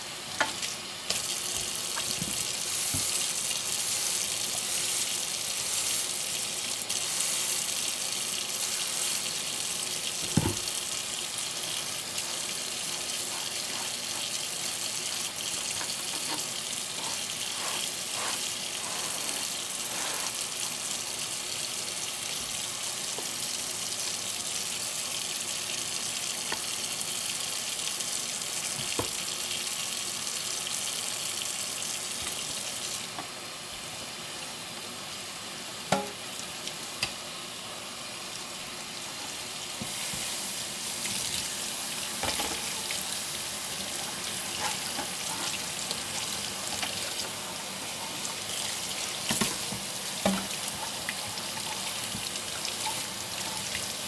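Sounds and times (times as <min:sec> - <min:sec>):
tap water running into sink: 0:00.3 - 0:33.4, 0:39.1 - 0:54.0.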